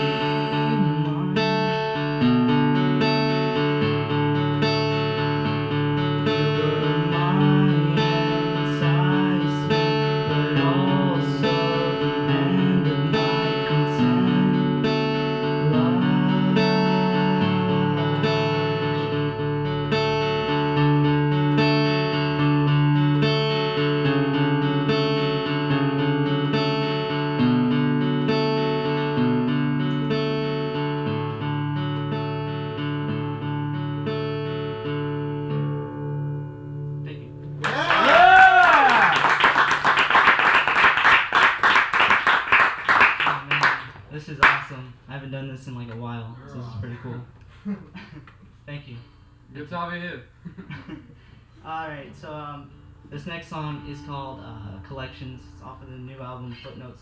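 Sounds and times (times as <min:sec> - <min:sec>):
acoustic guitar chords: 0:00.0 - 0:57.0.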